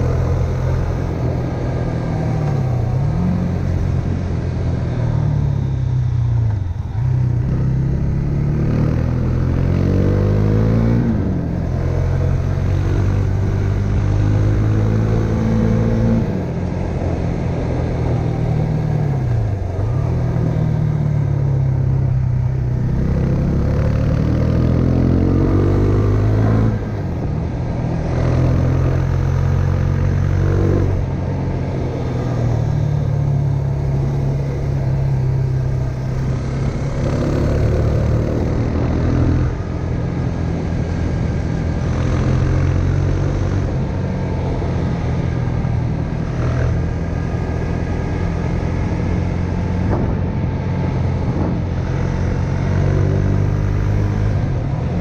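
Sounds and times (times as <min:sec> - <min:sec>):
motorcycle engine under way: 0:00.0 - 0:55.0.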